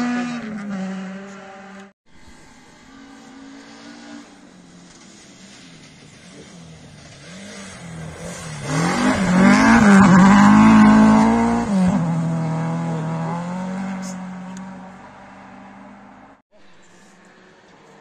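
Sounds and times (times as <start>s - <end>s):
rally car engine passing: 0.0s - 18.0s.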